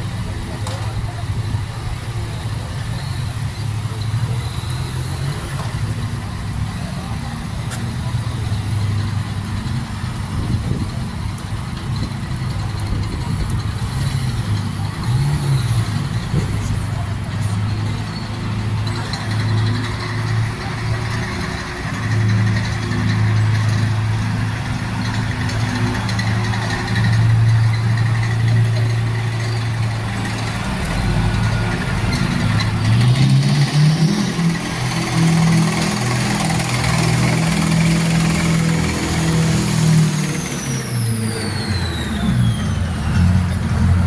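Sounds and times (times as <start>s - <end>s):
jeep engine low hum: 0.0s - 44.0s
tank engine approaching: 0.0s - 44.0s.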